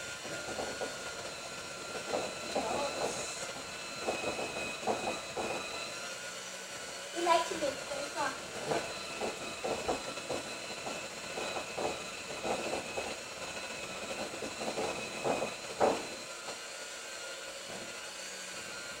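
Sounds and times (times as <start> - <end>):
electric hand mixer running: 0.0 - 19.0
mixer knocking on bowl: 0.1 - 6.2, 7.2 - 16.6.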